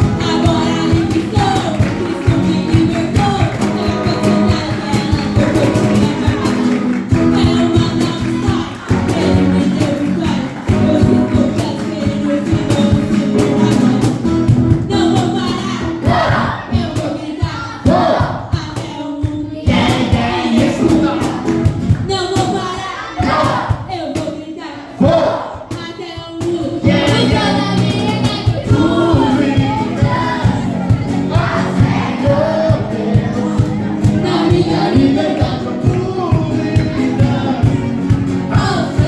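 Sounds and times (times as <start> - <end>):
group singing worship song: 0.0 - 14.4, 15.1 - 18.6, 19.6 - 25.7, 26.7 - 39.0.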